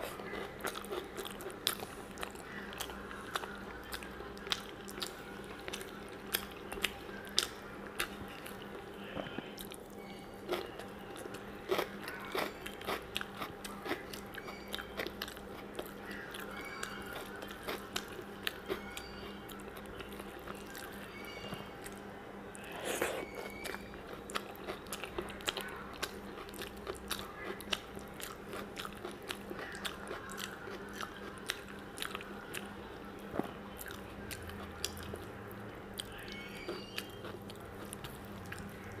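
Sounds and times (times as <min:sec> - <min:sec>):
chewing with wet mouth clicks: 0:00.0 - 0:08.8, 0:09.6 - 0:21.0, 0:23.0 - 0:39.0.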